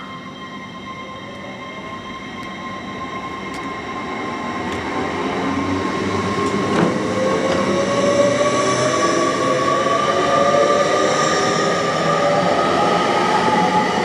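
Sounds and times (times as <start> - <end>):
train approaching with whine: 0.0 - 14.0.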